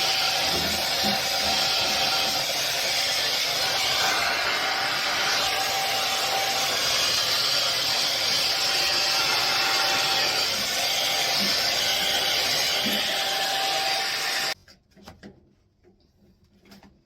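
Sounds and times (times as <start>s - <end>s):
vacuum cleaner running: 0.0s - 14.6s.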